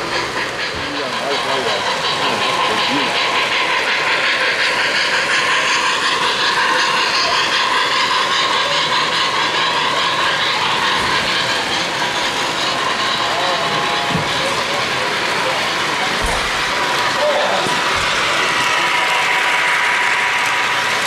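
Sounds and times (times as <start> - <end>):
model train wheels rumbling on rails: 0.0 - 21.0.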